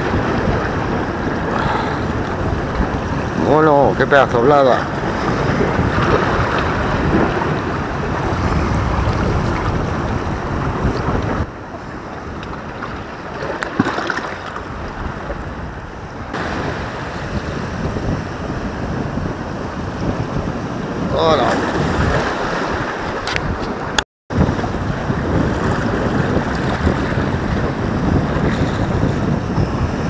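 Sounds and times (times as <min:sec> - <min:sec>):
sea waves washing over rocks: 0:00.0 - 0:30.0
wind buffeting microphone: 0:00.0 - 0:30.0.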